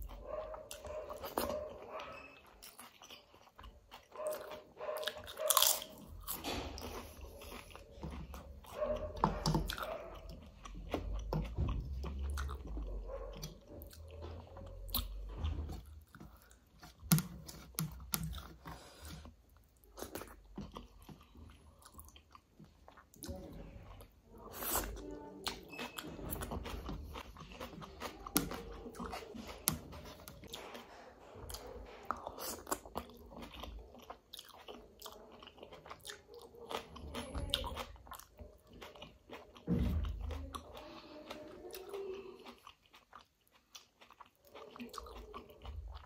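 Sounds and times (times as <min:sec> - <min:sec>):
person chewing and crunching food: 0:00.0 - 0:46.0.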